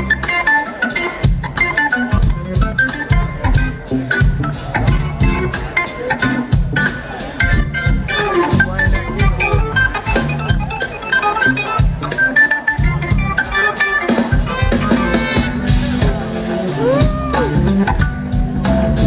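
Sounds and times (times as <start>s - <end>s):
blues-rock band playing: 0.0s - 19.0s
drum kit: 0.0s - 19.0s.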